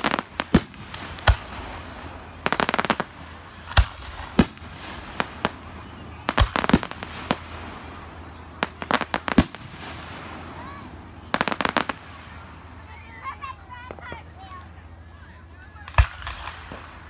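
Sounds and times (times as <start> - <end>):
firework bangs and booms: 0.0 - 12.6, 15.8 - 17.0
firecracker crackling: 0.0 - 17.0.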